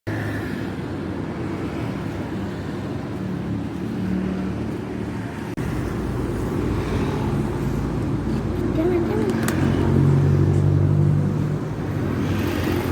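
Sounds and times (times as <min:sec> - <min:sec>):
traffic noise: 0:00.0 - 0:12.9.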